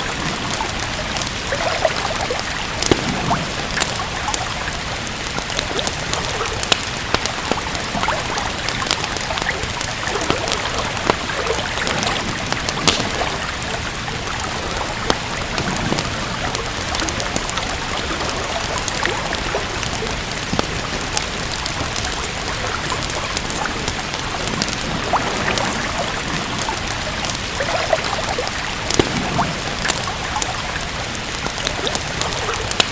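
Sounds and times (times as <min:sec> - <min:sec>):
steady rain: 0:00.0 - 0:32.9
wood fire crackling: 0:00.0 - 0:32.9.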